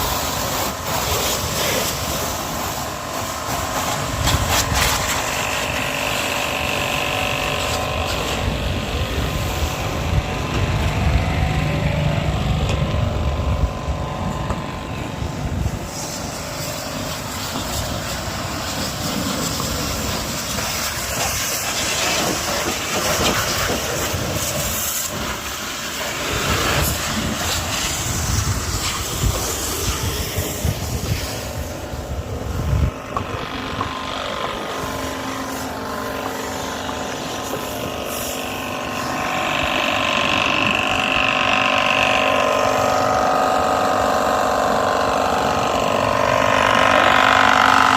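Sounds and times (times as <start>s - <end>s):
pressure washer running: 0.0s - 47.9s.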